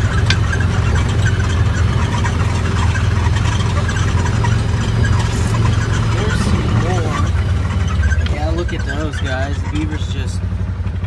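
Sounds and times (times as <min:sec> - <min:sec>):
engine low drone: 0:00.0 - 0:11.0
light rattles: 0:00.0 - 0:11.0.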